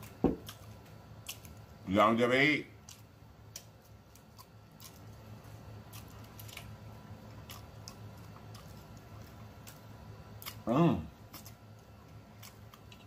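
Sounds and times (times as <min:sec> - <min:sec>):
person chewing food: 0:00.0 - 0:01.8, 0:02.8 - 0:13.0
low steady hum: 0:00.0 - 0:13.0.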